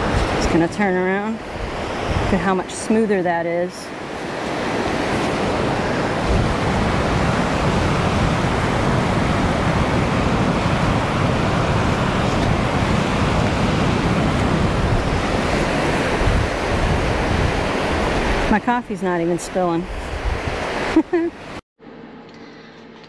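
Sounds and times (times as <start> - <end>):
wind buffeting microphone: 0.0 - 21.5
ocean surf: 0.0 - 21.6.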